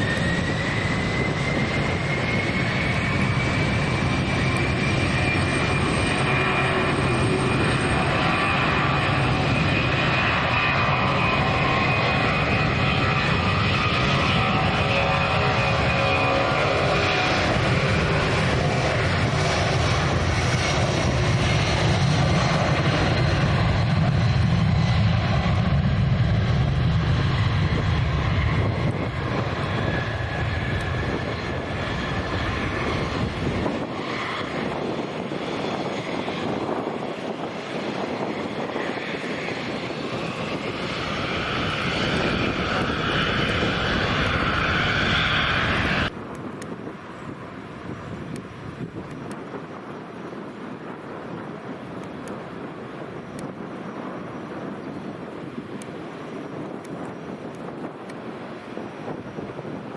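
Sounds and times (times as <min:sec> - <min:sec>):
airliner engines roaring: 0:00.0 - 0:59.9
engine whine: 0:00.0 - 0:59.9.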